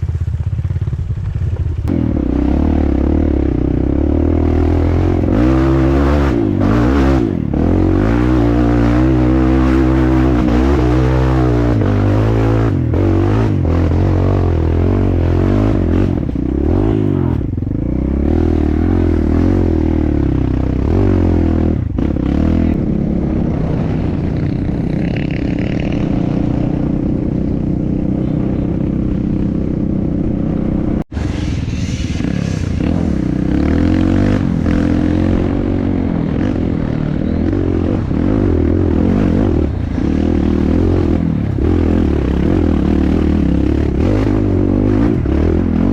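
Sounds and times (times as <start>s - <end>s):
dirt bike engine revving: 1.8s - 31.0s, 32.2s - 45.9s.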